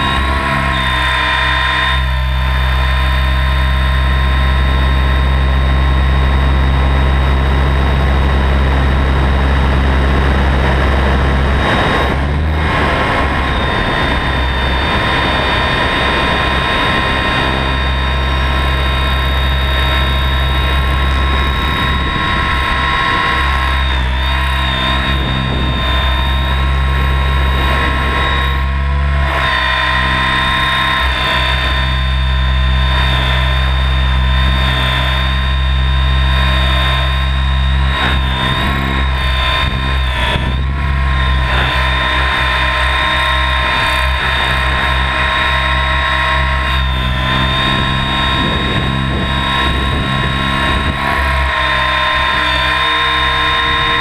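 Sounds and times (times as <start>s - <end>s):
helicopter rotor drone: 0.0s - 54.0s
high motor whine: 0.0s - 54.0s.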